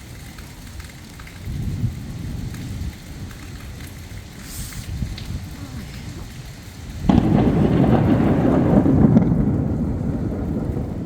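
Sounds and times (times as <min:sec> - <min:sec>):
steady rain: 0:00.0 - 0:11.0
low rumble of thunder: 0:01.3 - 0:11.0.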